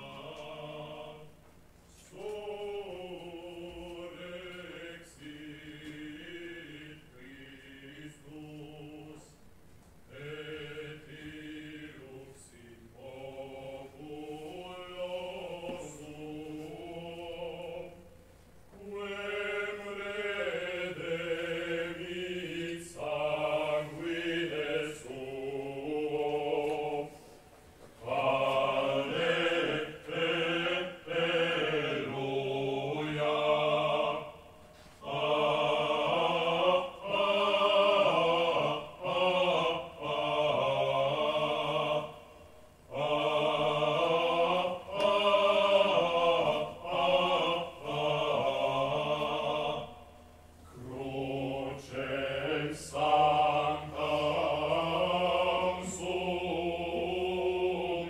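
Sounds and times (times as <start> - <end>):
male choir singing a cappella: 0.0 - 1.4, 2.0 - 9.4, 10.1 - 58.0.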